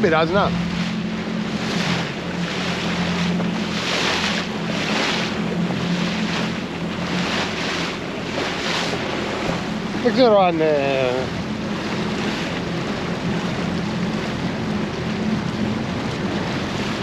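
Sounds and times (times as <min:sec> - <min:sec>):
boat engine running: 0:00.0 - 0:17.0
water splashing along hull: 0:00.0 - 0:17.0.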